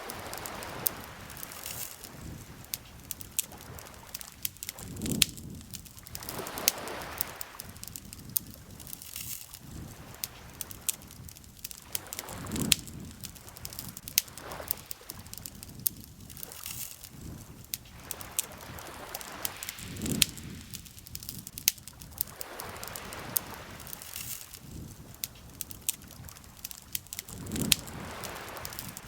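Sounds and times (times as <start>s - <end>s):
water lapping: 0.0s - 15.7s, 16.3s - 29.0s
campfire crackling and popping: 0.0s - 29.0s.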